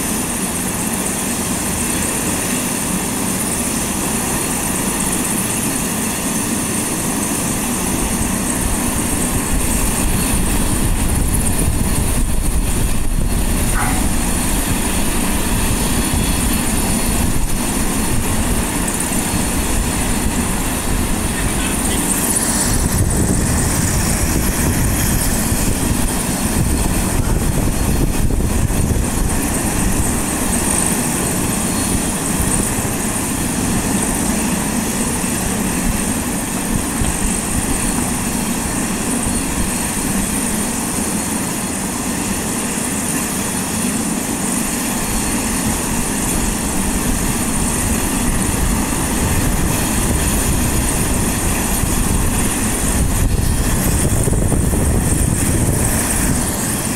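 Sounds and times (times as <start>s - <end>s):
helicopter rotor and engine noise: 0.0s - 56.9s
high turbine whine: 0.0s - 56.9s.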